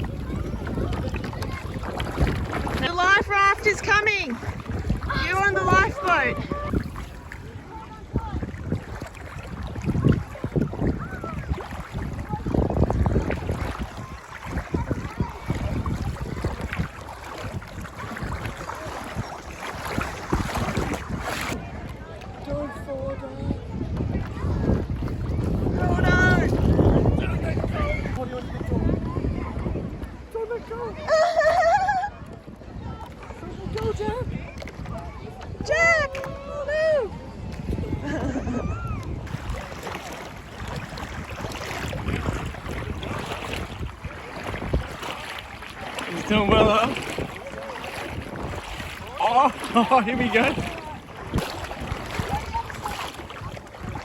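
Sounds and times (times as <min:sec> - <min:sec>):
sea surf washing: 0:00.0 - 0:54.0
water splashing and sloshing: 0:00.0 - 0:54.0
wind buffeting microphone: 0:00.0 - 0:54.0.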